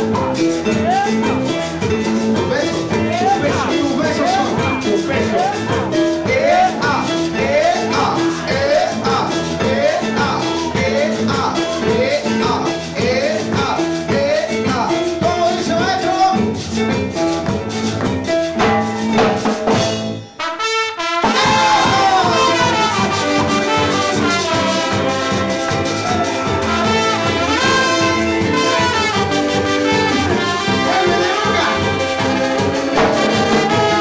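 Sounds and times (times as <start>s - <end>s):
brass band music with trumpet: 0.0s - 16.2s, 17.2s - 34.0s.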